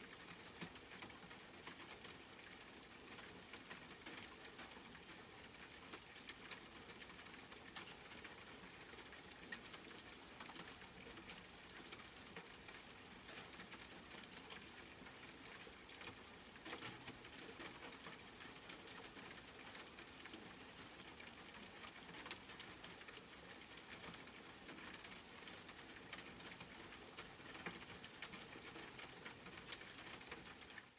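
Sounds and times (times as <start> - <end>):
rain pattering: 0.0 - 30.9.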